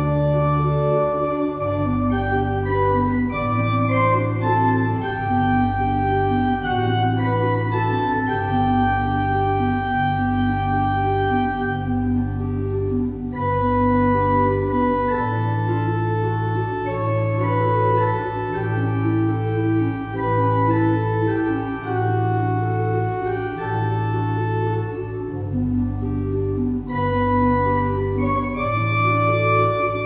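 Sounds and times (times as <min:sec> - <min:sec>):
pipe organ playing: 0:00.0 - 0:30.0.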